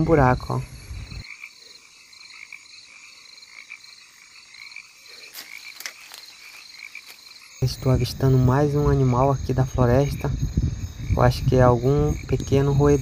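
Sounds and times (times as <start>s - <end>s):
frogs calling: 0.0s - 13.0s.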